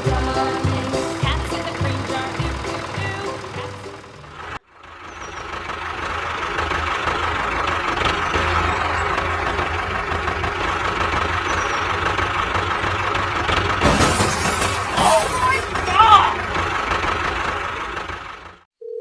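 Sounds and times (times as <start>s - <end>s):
engine low throb: 0.0s - 18.6s.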